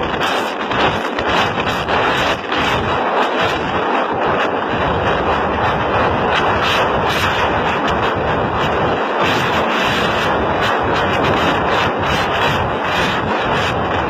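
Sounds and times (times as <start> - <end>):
wind buffeting: 0.0 - 14.0.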